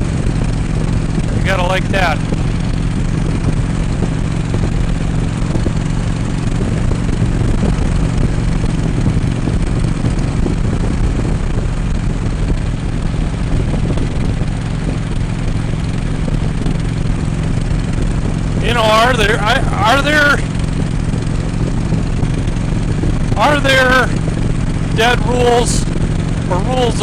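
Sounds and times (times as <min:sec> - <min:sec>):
motorcycle engine cruising: 0:00.0 - 0:27.0
wind and road noise: 0:00.0 - 0:27.0.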